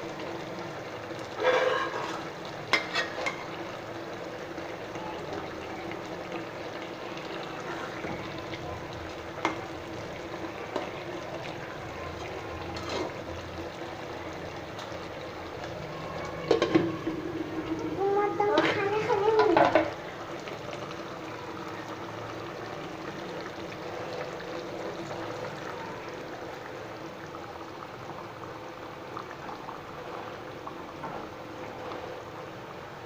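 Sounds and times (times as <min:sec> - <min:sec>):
curry sizzling in a pan: 0:00.0 - 0:33.0.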